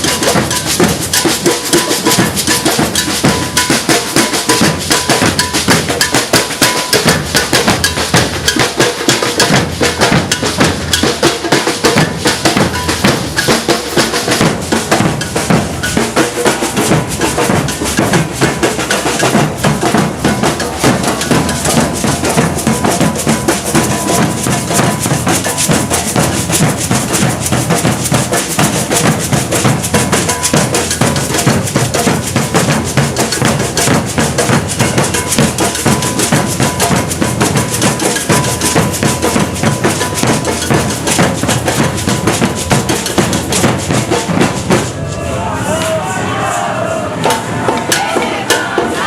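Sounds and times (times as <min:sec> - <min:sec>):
snare drums: 0:00.0 - 0:49.0.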